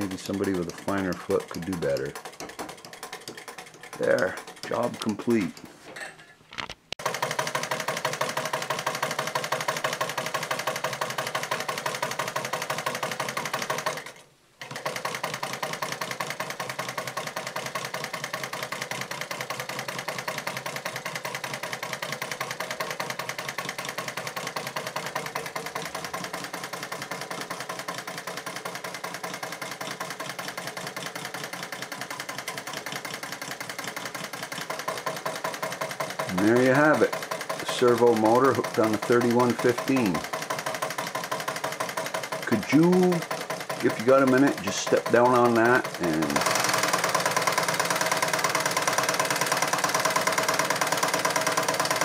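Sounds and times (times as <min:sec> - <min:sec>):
sewing machine stitching: 0:00.0 - 0:06.2, 0:07.0 - 0:52.0.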